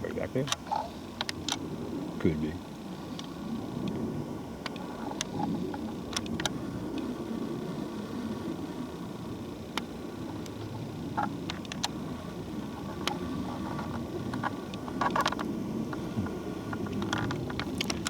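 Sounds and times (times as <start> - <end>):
light clicks and crackles: 0.0 - 2.3, 2.9 - 18.0
wind rumbling on microphone: 0.0 - 18.0.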